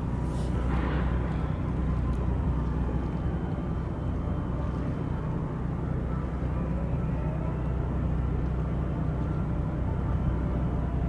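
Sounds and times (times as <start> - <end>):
low tonal hum: 0.0 - 11.0
ship engine rumble: 0.0 - 11.0.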